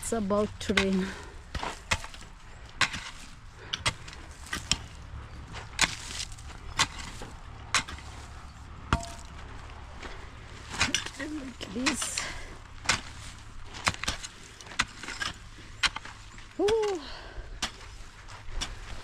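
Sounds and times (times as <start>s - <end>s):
hoe striking soil: 0.0s - 19.0s.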